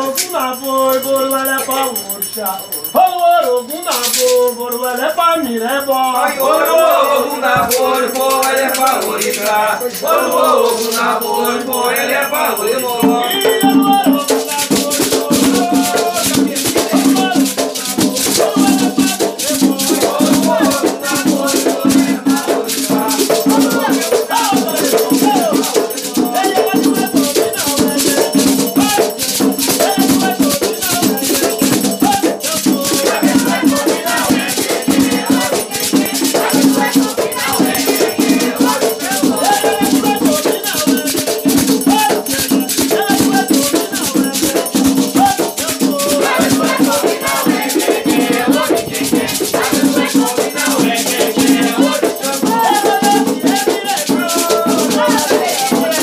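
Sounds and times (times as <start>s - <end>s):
rattles shaken: 0.0s - 4.8s, 7.4s - 11.3s, 12.0s - 56.0s
voices singing: 0.0s - 56.0s
drumming: 6.4s - 56.0s.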